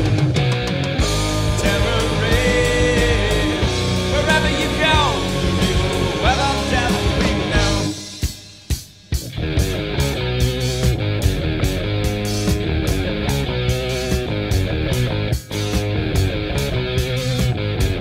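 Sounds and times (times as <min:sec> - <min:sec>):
bass and drums: 0:00.0 - 0:18.0
distorted electric guitar bending notes: 0:00.0 - 0:18.0.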